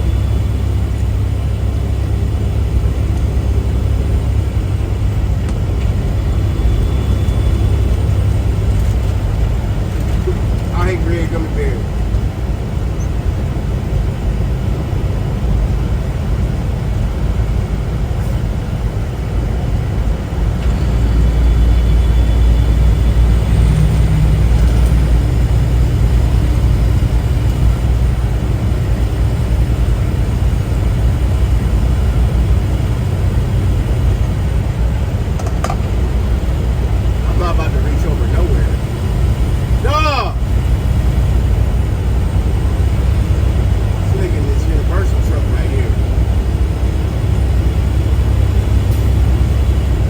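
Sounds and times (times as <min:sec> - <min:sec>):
road noise: 0:00.0 - 0:50.0
truck engine drone: 0:00.0 - 0:50.0.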